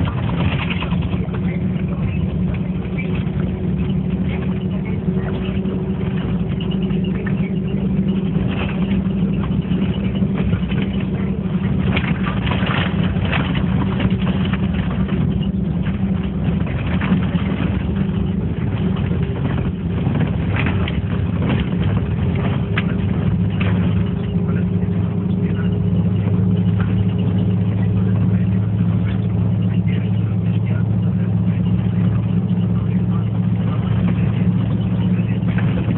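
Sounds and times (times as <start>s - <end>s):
car engine humming: 0.0s - 35.9s
low hum: 0.0s - 35.9s
road noise: 0.0s - 35.9s.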